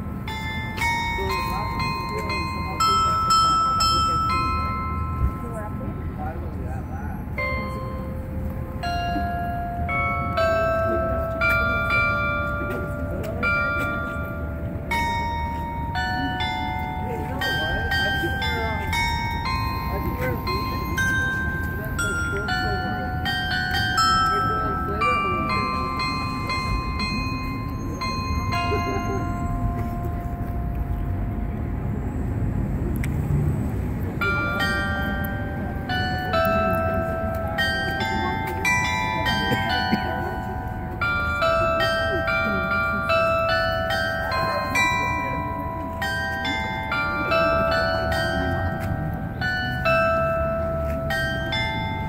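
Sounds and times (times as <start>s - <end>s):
glockenspiel bells playing slow tune: 0.0s - 32.4s, 33.9s - 52.0s.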